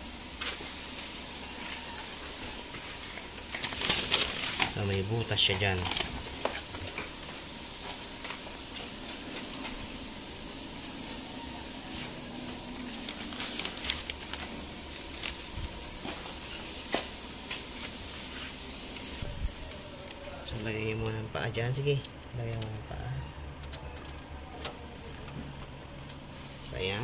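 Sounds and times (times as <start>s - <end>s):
background hiss: 0.0s - 23.1s, 25.2s - 27.0s.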